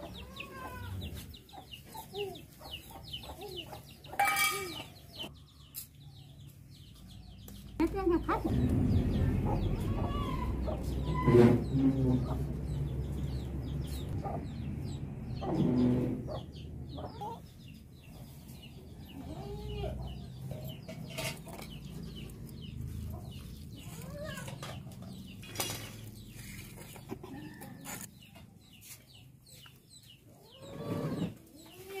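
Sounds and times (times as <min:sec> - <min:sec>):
chickens clucking: 0:00.0 - 0:07.1, 0:07.9 - 0:32.0.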